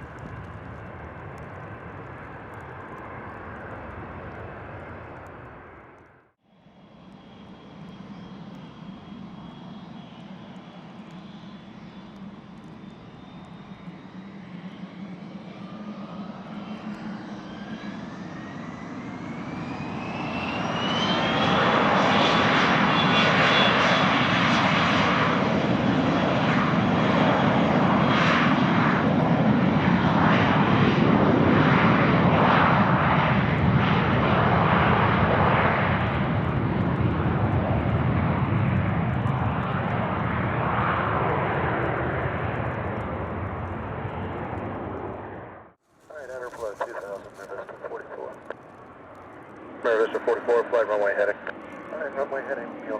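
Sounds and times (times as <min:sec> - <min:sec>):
jet engine turbine whine: 0:00.0 - 0:52.9
jet engine rush: 0:06.8 - 0:52.9.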